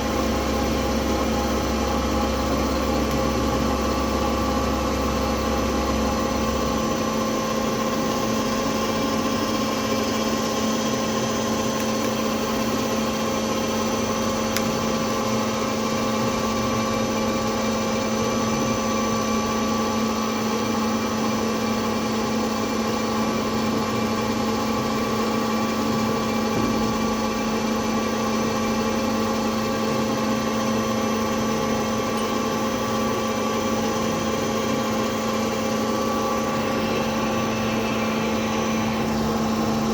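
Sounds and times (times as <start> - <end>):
milling machine humming and whining: 0.0 - 39.9.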